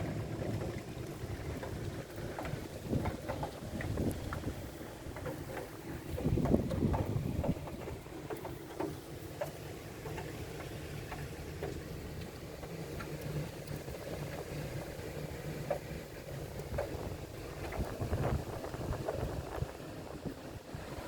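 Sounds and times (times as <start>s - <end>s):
low rumble of rain and wind: 0.0s - 21.0s
raindrops tapping on window: 0.4s - 20.6s.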